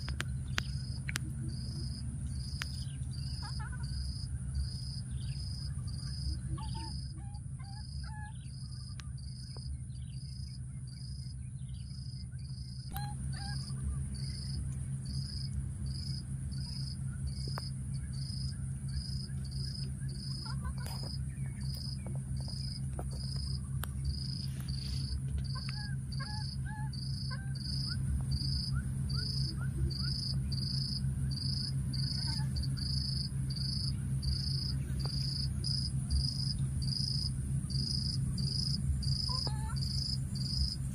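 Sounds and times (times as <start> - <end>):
insects high drone: 0.0 - 40.9
low steady hum: 0.0 - 40.9
pulsing insect chirp: 0.0 - 40.9.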